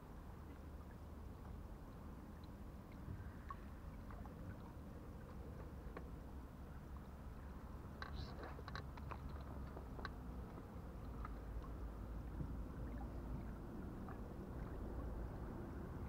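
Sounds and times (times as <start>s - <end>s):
small waves lapping: 0.0s - 16.0s
wind rumble on microphone: 0.0s - 16.0s.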